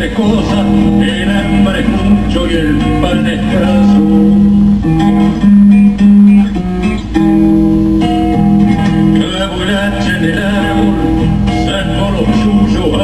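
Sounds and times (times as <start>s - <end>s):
fingerstyle classical guitar: 0.0s - 13.0s.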